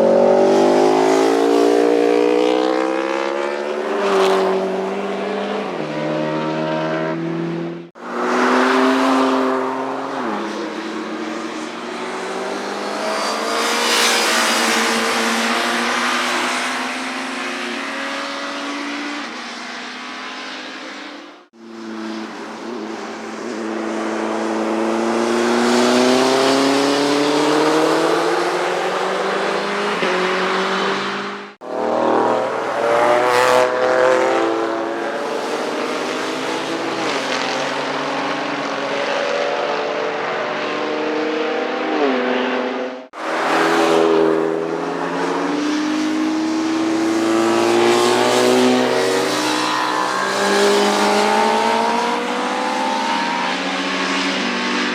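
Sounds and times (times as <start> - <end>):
motorcycles passing at high revs: 0.0 - 54.9.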